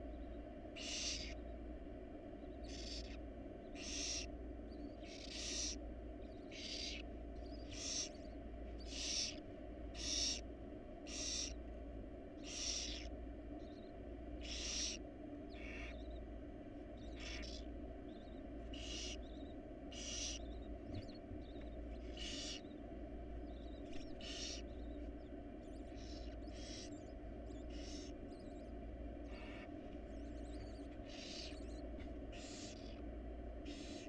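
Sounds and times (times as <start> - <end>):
steady low hum: 0.0 - 34.0
owl nestlings hissing calls: 0.7 - 1.6, 2.5 - 11.7, 12.3 - 34.0.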